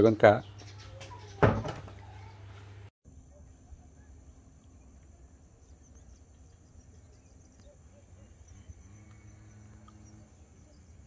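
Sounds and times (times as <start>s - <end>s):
bird chirps: 0.3s - 2.4s, 3.2s - 11.0s.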